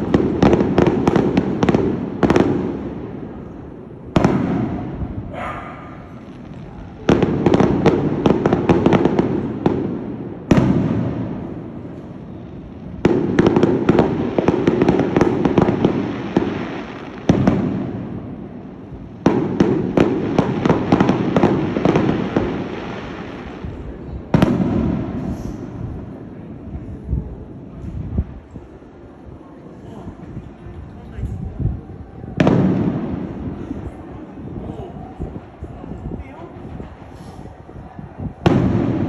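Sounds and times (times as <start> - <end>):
fireworks bangs and crackle: 0.0 - 39.0.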